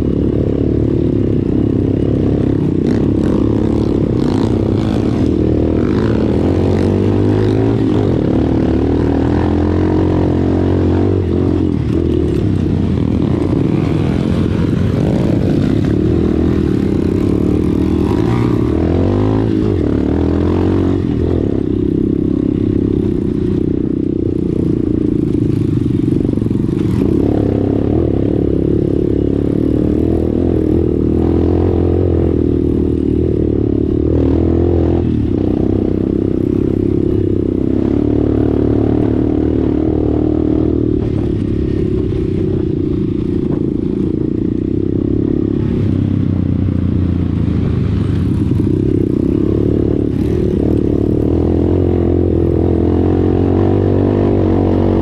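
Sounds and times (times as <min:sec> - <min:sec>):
dirt bike engine revving: 0:00.0 - 0:44.4.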